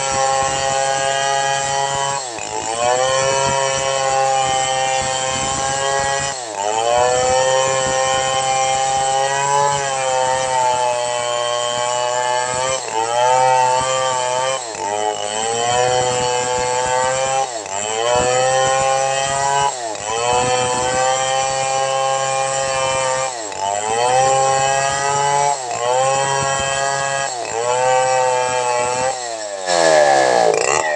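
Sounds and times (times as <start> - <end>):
chainsaw cutting a log: 0.0 - 30.9.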